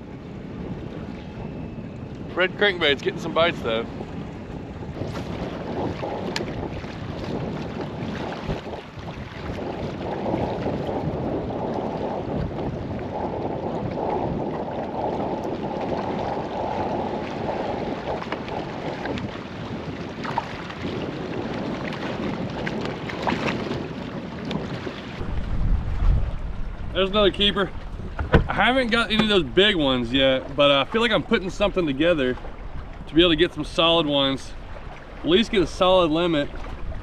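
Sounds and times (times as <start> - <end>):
water slapping a kayak hull: 0.0 - 37.0
wind on microphone: 0.0 - 37.0.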